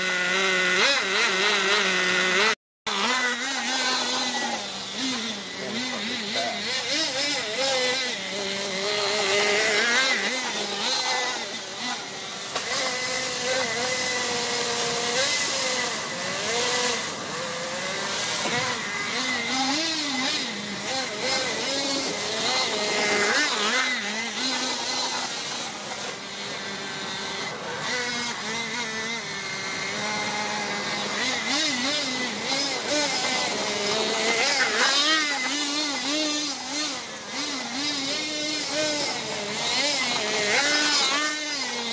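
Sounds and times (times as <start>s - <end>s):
model truck engine revving: 0.0s - 41.9s.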